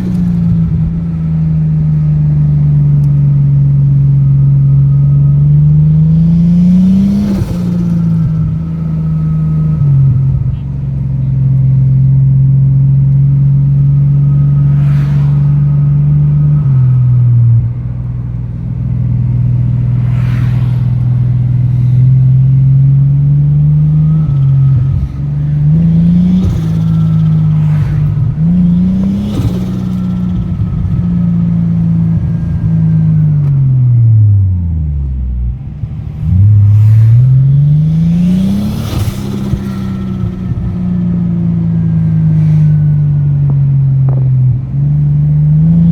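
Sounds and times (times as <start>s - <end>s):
turbo car engine accelerating: 0.0s - 45.9s.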